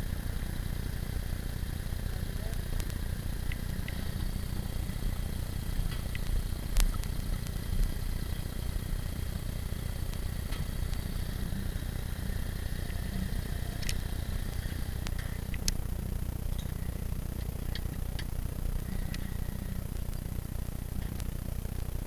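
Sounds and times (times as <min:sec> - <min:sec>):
motorcycle engine idling: 0:00.0 - 0:22.0
sharp clicks and light rattles: 0:00.0 - 0:22.0.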